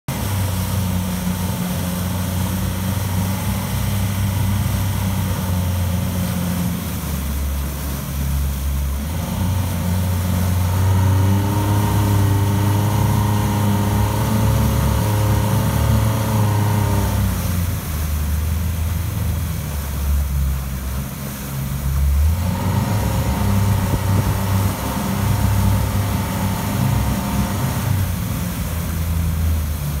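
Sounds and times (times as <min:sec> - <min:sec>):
propeller churning water: 0:00.0 - 0:30.0
outboard motor running: 0:00.1 - 0:30.0.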